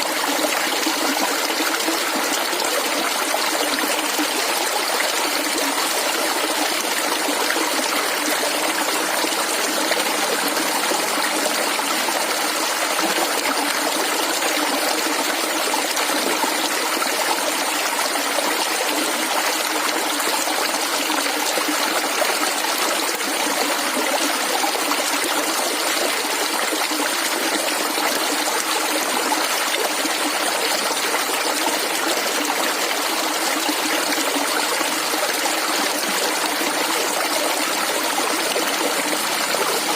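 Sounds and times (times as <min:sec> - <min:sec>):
small stream gurgling: 0:00.0 - 0:39.9.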